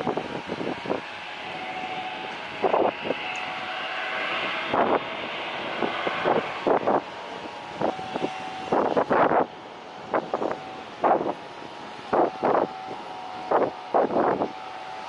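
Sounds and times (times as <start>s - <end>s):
distant jet engines humming: 0.0s - 15.0s
wind buffeting microphone: 0.0s - 15.0s.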